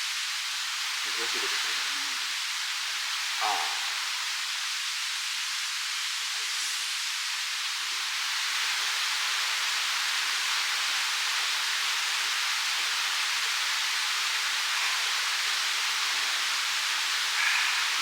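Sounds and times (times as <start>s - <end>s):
steady rushing hiss: 0.0s - 18.0s.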